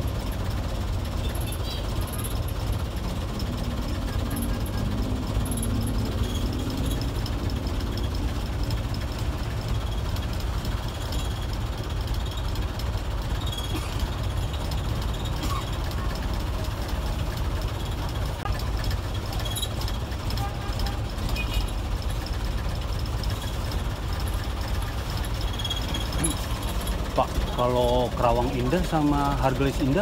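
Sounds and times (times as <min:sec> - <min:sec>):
bus diesel engine rumble: 0:00.0 - 0:30.0.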